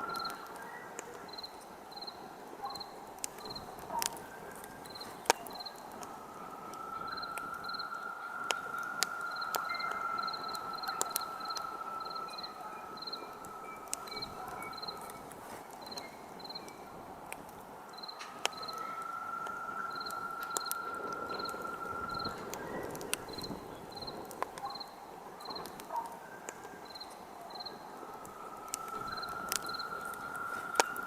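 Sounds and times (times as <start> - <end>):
campfire crackling and popping: 0.0 - 31.0
crickets chirping: 0.0 - 31.0.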